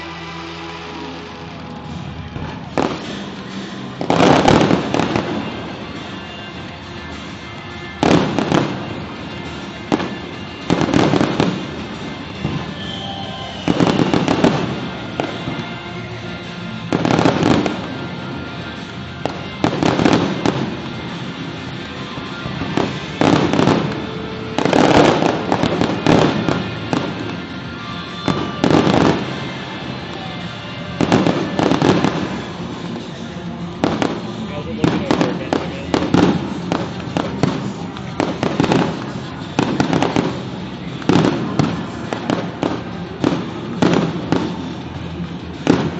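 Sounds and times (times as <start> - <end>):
fireworks booming and crackling: 0.0 - 45.9
music playing: 0.0 - 45.9.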